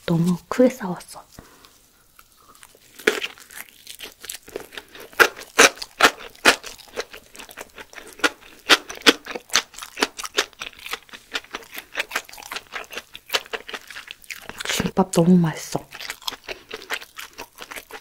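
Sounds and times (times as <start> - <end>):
crunchy chewing: 1.4 - 18.0.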